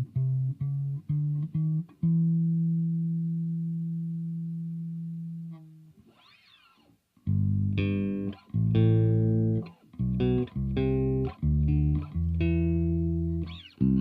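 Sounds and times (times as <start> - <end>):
electric bass notes: 0.0 - 6.0, 7.2 - 14.0.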